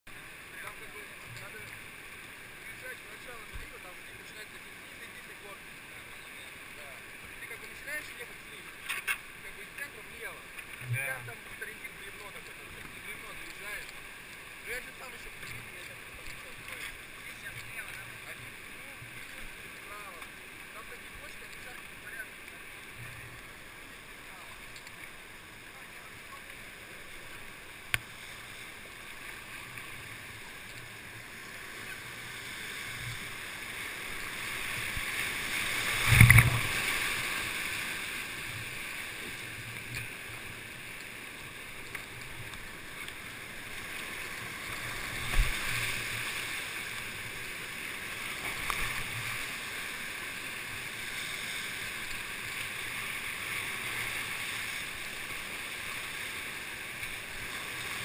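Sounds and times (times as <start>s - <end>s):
whitewater rushing: 0.1s - 58.0s.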